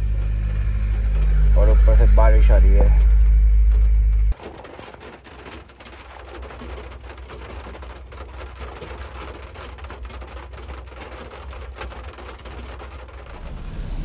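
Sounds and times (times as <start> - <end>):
rain drumming on car roof: 0.0 - 14.0.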